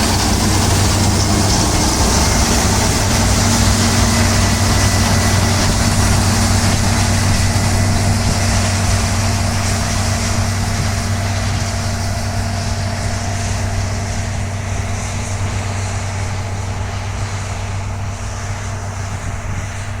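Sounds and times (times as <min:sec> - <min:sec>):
combine harvester machinery humming: 0:00.0 - 0:20.0.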